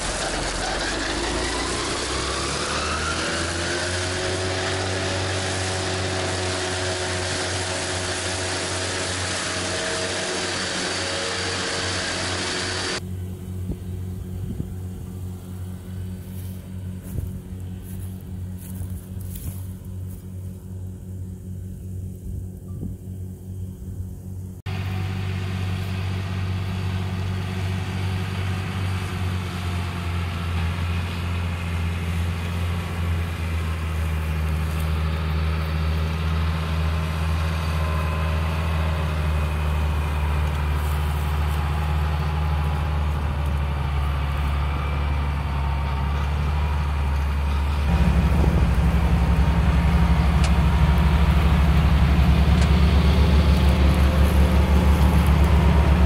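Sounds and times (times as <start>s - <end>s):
tractor diesel engine drone: 0.0s - 56.0s.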